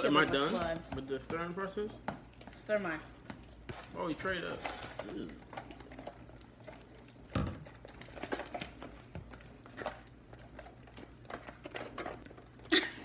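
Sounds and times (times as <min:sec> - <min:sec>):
slime being stirred: 0:00.0 - 0:12.7.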